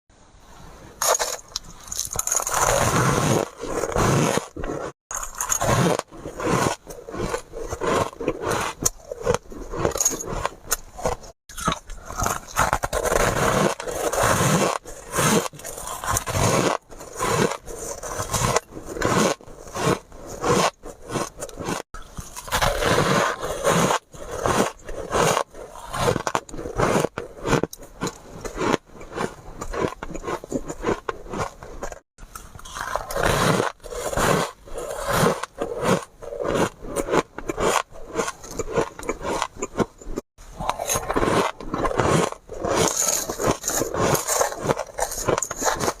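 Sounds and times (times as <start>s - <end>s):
person chewing ice: 1.0s - 46.0s.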